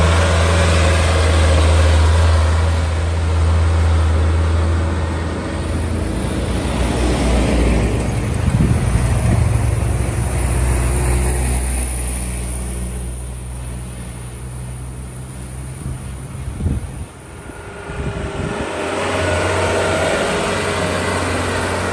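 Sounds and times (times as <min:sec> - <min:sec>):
diesel vehicle engine passing: 0:00.0 - 0:21.9.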